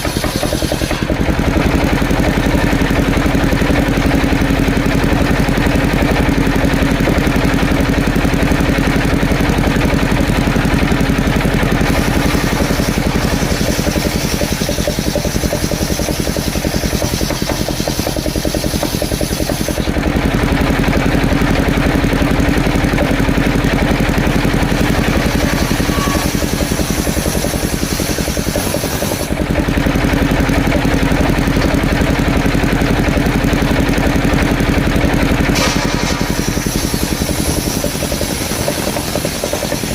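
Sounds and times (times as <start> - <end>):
wood saw engine hum: 0.0 - 39.9.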